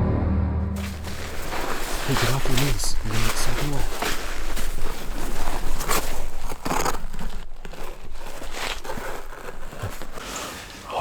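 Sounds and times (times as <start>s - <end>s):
crunchy scrapes: 0.8s - 11.0s
rustling and crinkling: 0.8s - 11.0s.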